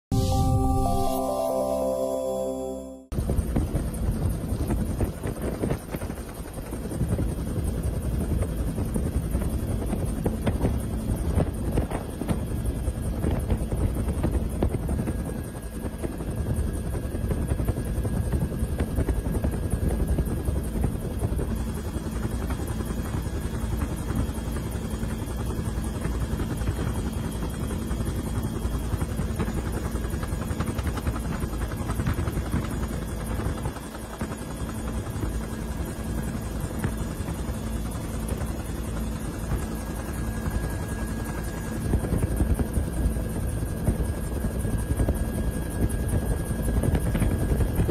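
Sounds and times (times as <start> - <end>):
helicopter engine and rotor drone: 3.1 - 47.9.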